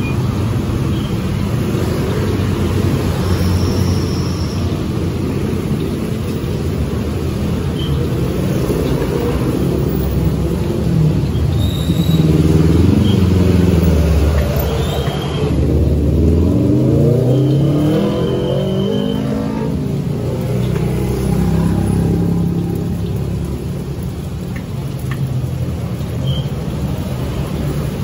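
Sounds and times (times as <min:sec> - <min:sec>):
vehicle engines accelerating: 0:00.0 - 0:28.0.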